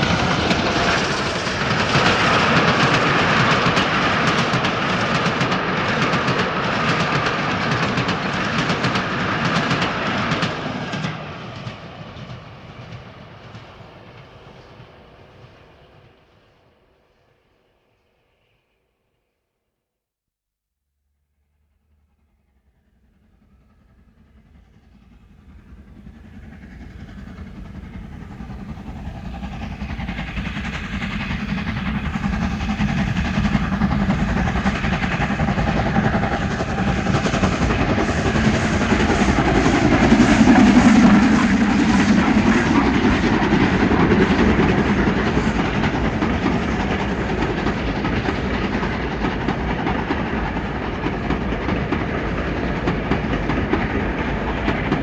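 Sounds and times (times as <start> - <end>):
steam train on rails: 0.0 - 19.4, 22.0 - 55.0.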